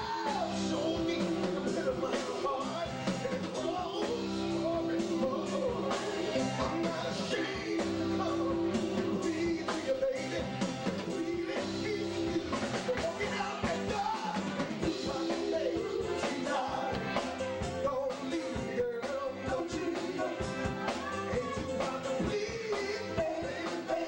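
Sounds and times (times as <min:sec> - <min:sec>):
band music: 0:00.0 - 0:24.0
drums beating: 0:00.0 - 0:24.0
man singing: 0:00.0 - 0:24.0.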